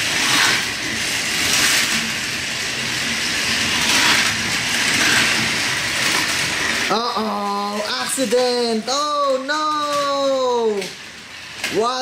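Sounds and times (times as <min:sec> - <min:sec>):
toy trains whirring and rattling: 0:00.0 - 0:12.0.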